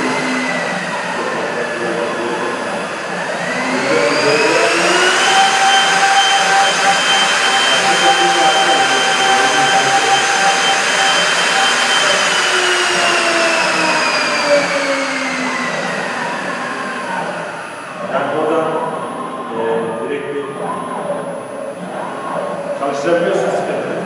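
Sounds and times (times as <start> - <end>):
cnc router whining: 0.0 - 24.0.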